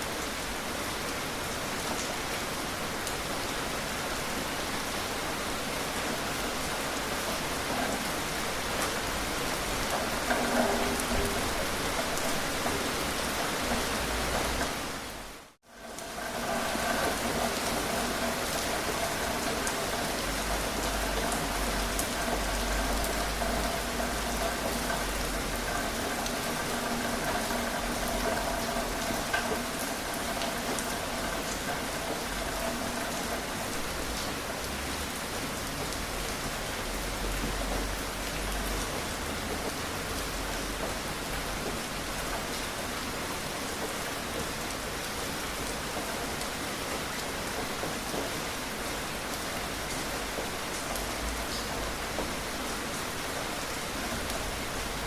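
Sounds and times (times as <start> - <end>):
steady rain falling: 0.0 - 55.0
raindrops ticking: 6.2 - 55.0.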